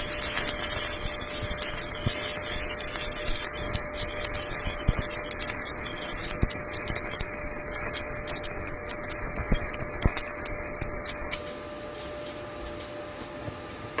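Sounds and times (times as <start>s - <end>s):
welding arc hissing and crackling: 0.0s - 11.4s.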